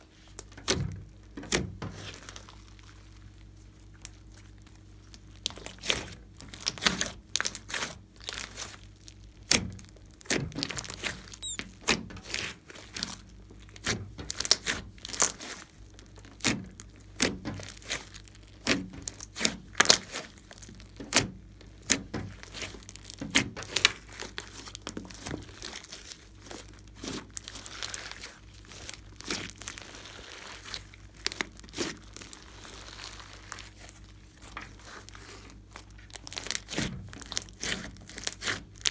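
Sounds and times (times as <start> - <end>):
slime squelching and popping: 0.4 - 38.9.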